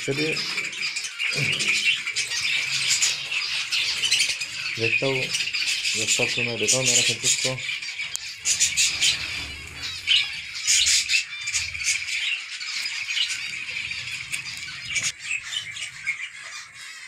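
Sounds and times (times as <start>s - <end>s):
finches calling: 0.0s - 17.0s.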